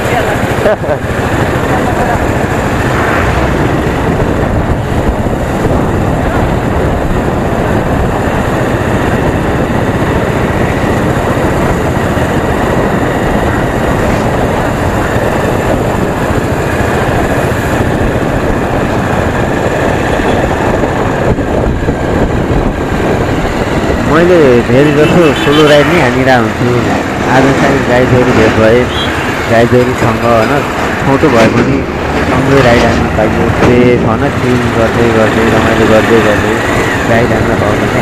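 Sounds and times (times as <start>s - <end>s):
motorcycle engine running: 0.0s - 31.1s
wind and road noise: 0.0s - 38.0s.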